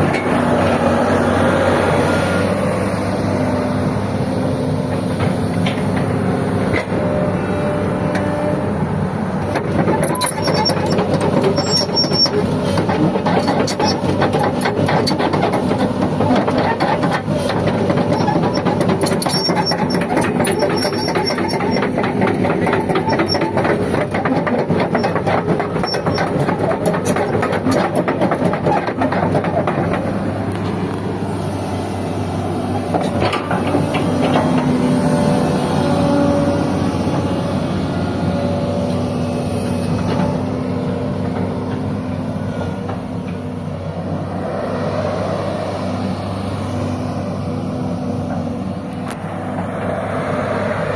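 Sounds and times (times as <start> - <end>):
excavator diesel drone: 0.0 - 50.9.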